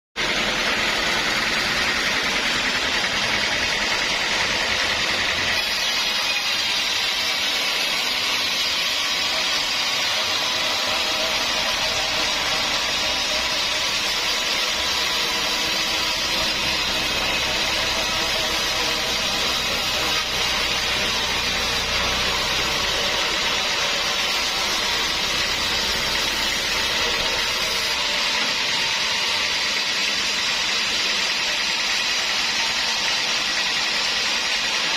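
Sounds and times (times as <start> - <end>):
saw hissing: 0.2 - 34.9.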